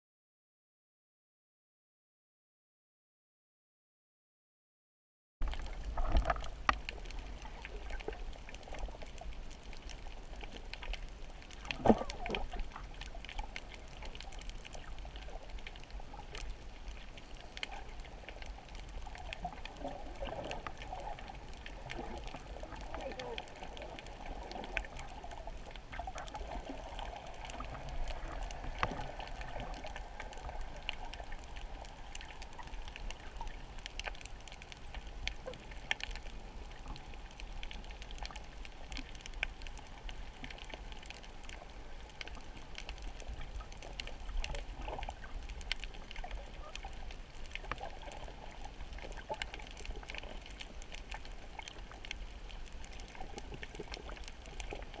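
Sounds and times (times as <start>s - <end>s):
small underwater clicks and crackles: 5.4s - 55.0s
underwater rumble: 5.4s - 55.0s.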